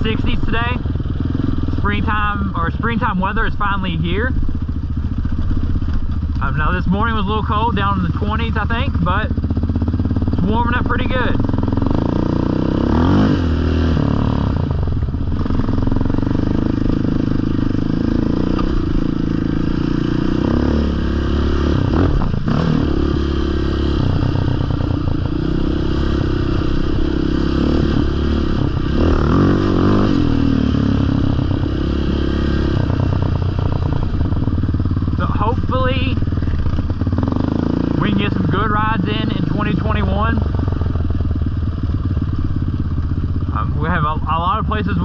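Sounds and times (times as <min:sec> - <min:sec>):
atv engine revving: 0:00.0 - 0:45.0.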